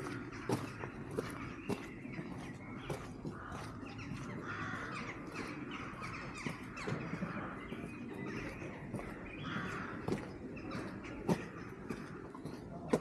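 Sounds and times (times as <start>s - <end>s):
birds cawing hoarsely: 0.0s - 13.0s.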